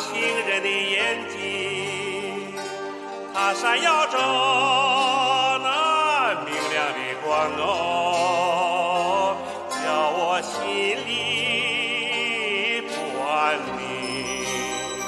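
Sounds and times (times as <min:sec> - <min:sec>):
instrumental accompaniment: 0:00.0 - 0:15.0
person singing with vibrato: 0:00.0 - 0:15.0.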